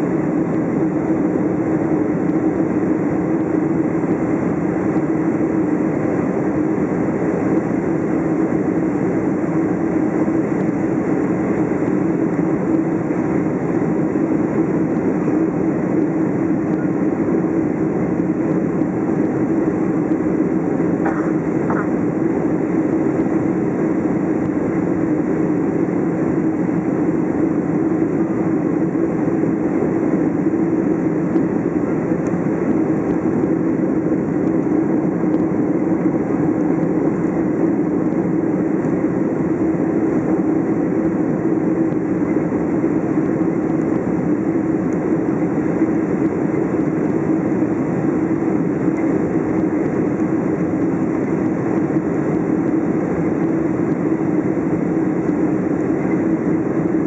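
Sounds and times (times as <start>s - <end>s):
aircraft engine drone: 0.0s - 57.0s
low hum: 7.6s - 57.0s.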